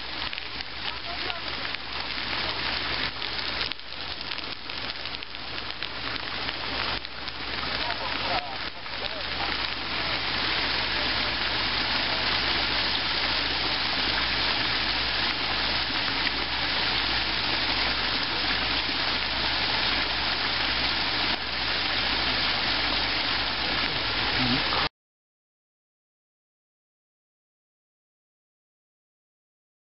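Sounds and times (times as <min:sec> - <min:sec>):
wildfire rushing in wind: 0:00.0 - 0:24.9.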